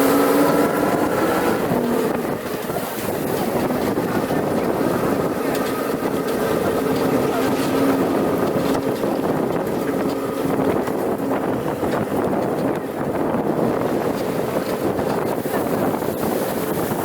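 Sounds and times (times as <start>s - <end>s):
rushing noise: 0.0s - 17.0s
truck engine droning: 0.0s - 17.0s.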